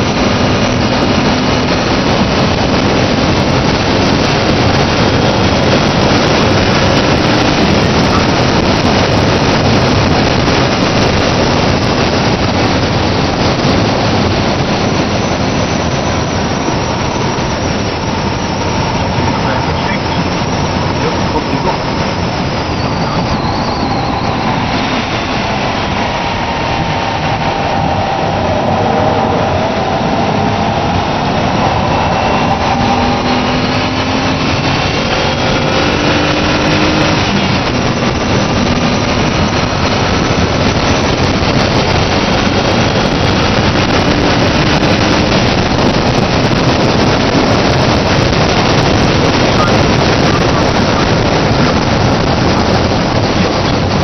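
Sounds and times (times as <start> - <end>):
car engine at high revs: 0.0 - 54.0
wind and road noise: 0.0 - 54.0.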